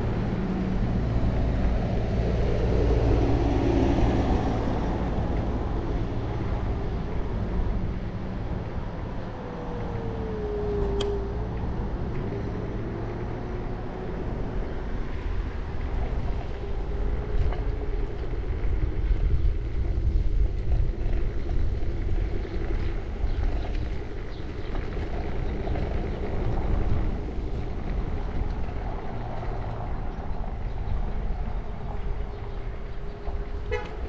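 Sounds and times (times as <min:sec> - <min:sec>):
small wheels rumbling on concrete: 0:00.0 - 0:34.0
wind buffeting microphone: 0:00.0 - 0:34.0
electric scooter motor whine: 0:02.7 - 0:34.0.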